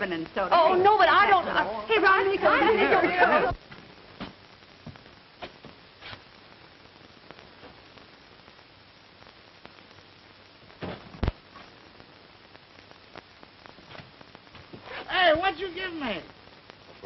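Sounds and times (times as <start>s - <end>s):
film soundtrack hiss and crackle: 0.0s - 17.0s.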